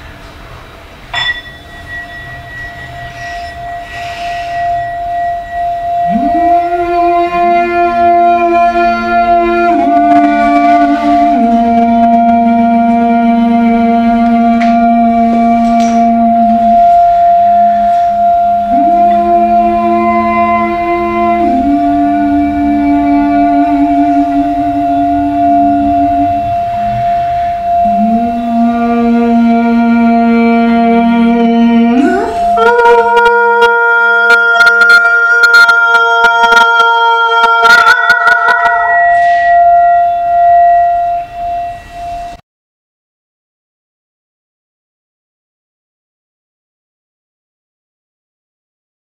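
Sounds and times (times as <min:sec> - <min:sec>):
singing bowl ringing: 0:00.9 - 0:42.4
woman singing long notes: 0:01.7 - 0:42.4.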